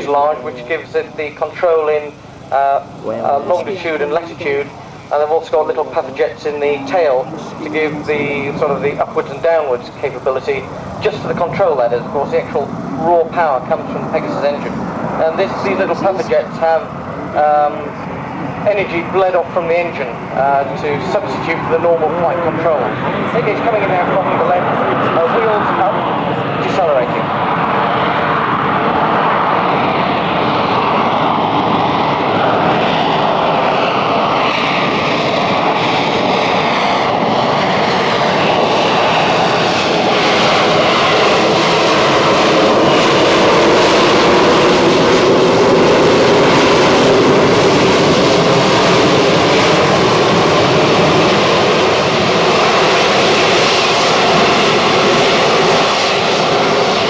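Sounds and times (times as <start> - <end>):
jet engine roar: 0.0 - 57.0.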